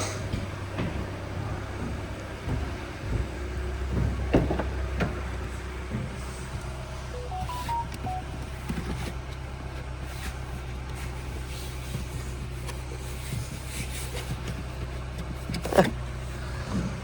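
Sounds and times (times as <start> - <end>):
rustling in a car cabin: 0.7 - 17.0.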